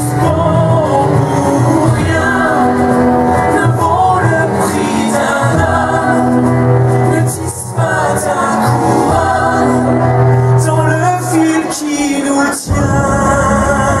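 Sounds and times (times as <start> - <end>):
show tune singing with backing music: 0.0 - 14.0.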